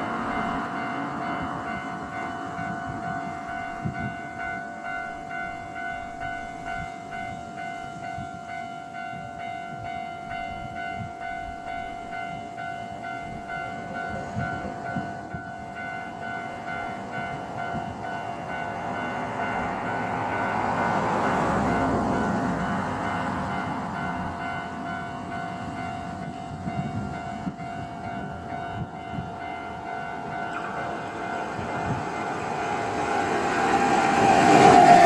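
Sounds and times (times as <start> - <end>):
level-crossing warning bell ringing: 0.0 - 35.0
low rumble of passing train: 0.0 - 35.0.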